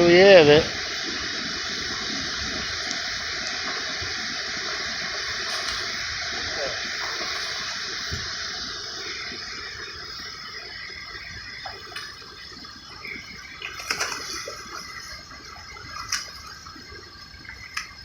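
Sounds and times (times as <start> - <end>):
moving water: 0.0 - 18.0.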